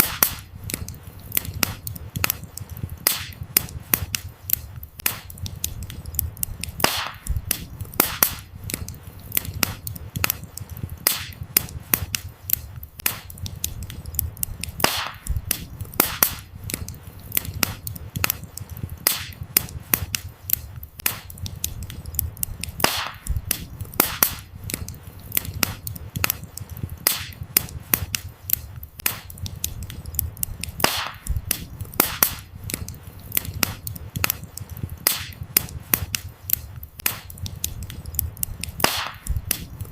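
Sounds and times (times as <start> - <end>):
firewood crackling and snapping: 0.0 - 39.9
low rumble of flames: 0.0 - 39.9.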